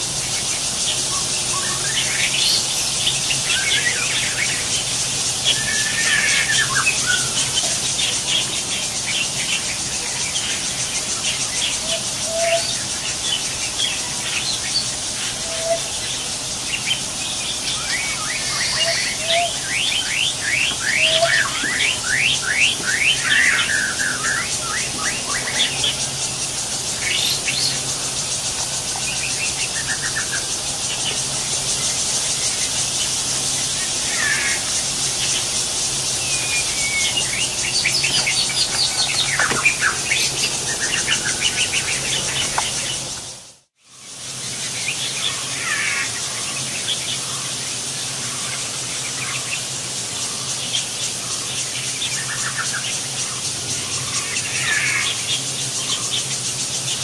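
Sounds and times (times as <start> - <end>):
birds chirping and calling: 0.0 - 43.4, 44.1 - 57.0
steady high hiss: 0.0 - 57.0.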